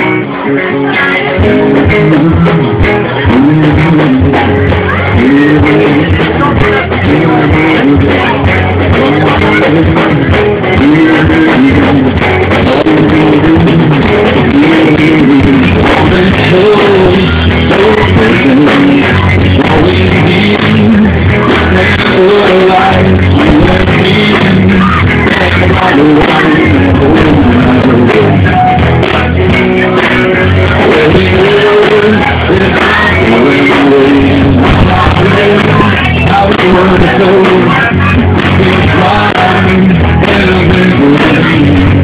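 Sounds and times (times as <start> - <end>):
electric guitar: 0.0 - 42.0
live rock band playing: 0.0 - 42.0
person singing: 0.0 - 42.0.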